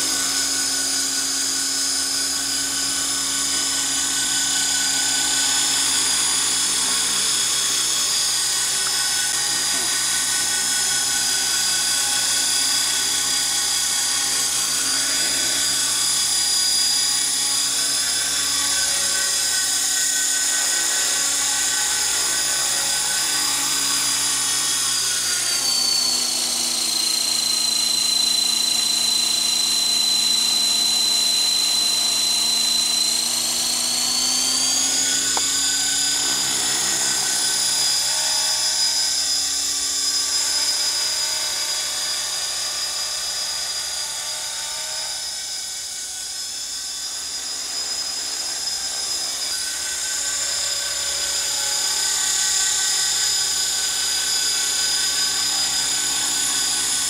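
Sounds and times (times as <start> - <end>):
rc helicopter whine: 0.0 - 57.0.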